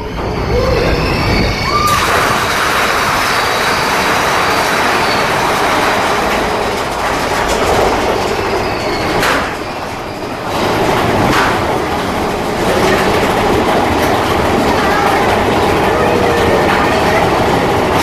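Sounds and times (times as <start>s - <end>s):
roller coaster wheels rattling on track: 0.0s - 18.0s.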